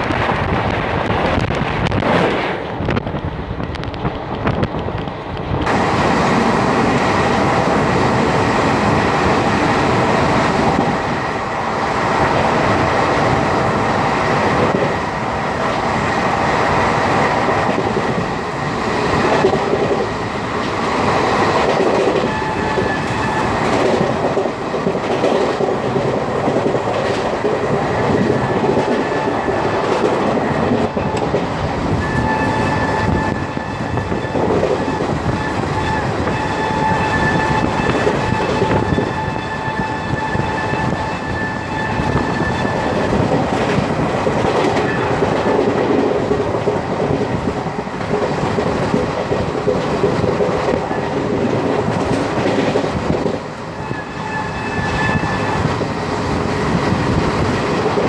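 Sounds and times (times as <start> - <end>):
clickety-clack over rail joints: 0.0 - 58.0
train wheels rumbling on rail: 0.0 - 58.0
wind noise: 0.0 - 58.0.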